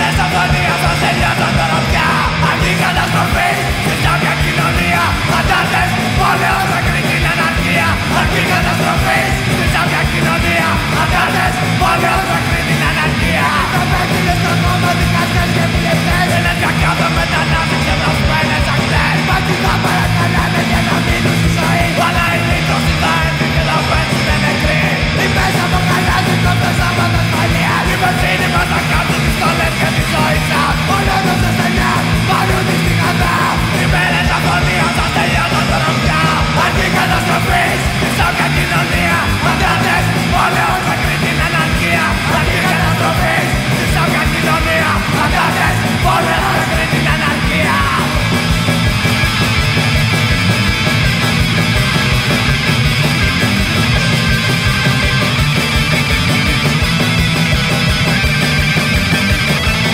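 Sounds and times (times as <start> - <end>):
shouted vocals: 0.0 - 48.7
distorted guitars: 0.0 - 59.9
fast punk music: 0.0 - 59.9
rapid drumming: 0.0 - 59.9.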